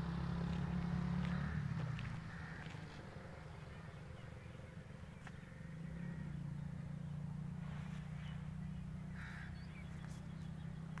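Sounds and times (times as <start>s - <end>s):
steady low rumble: 0.0s - 11.0s
bird calls: 0.5s - 11.0s.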